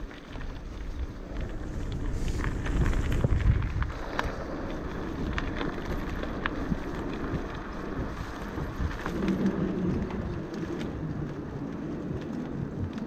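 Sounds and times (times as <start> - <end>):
bicycle clicks and rattles: 0.0 - 13.0
wind rumbling on microphone: 0.0 - 13.0.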